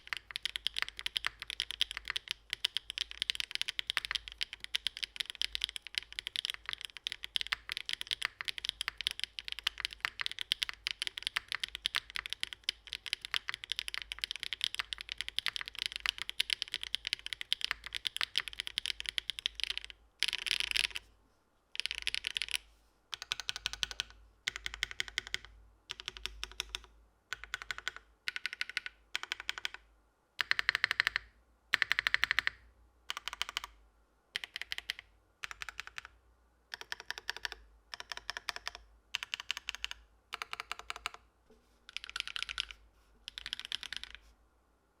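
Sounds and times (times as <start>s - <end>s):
mechanical keyboard typing: 0.0s - 21.0s, 21.8s - 29.8s, 30.4s - 33.8s, 34.4s - 41.2s, 41.9s - 44.2s.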